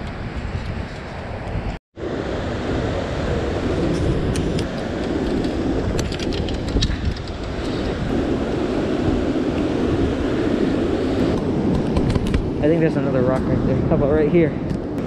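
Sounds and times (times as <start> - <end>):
wind buffeting microphone: 0.0 - 15.0
surf rushing: 2.0 - 15.0.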